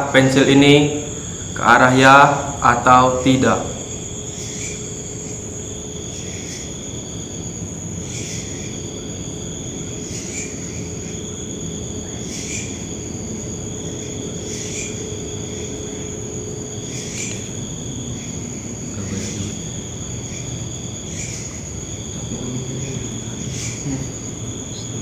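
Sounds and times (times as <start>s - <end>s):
crickets trilling: 0.0s - 25.0s
louder insect chirp: 0.0s - 25.0s
low background rumble: 0.0s - 25.0s.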